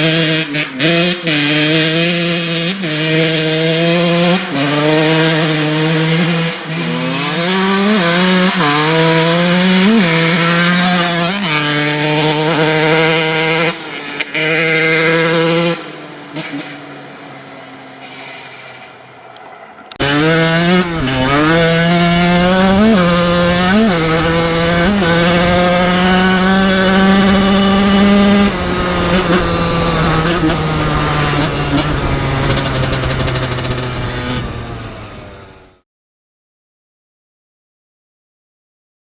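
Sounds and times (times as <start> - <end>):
dirt bike engine revving and idling: 0.0 - 16.7, 20.0 - 35.8.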